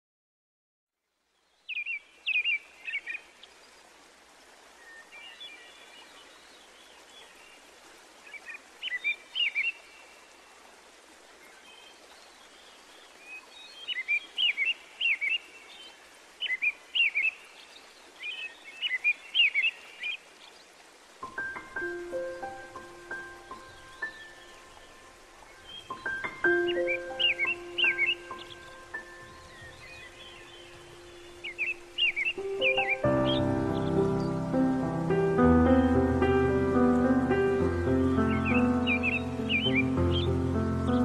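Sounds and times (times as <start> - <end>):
background hiss: 1.0 - 41.0
songbirds chirping: 1.1 - 41.0.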